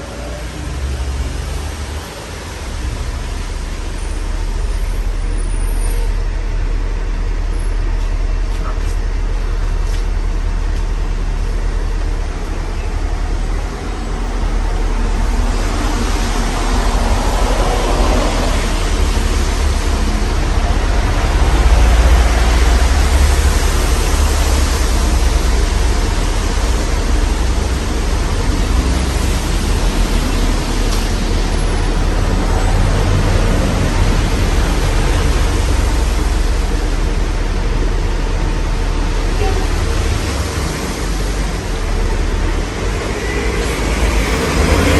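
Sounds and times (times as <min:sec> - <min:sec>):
fan wind buffeting microphone: 0:06.1 - 0:44.9.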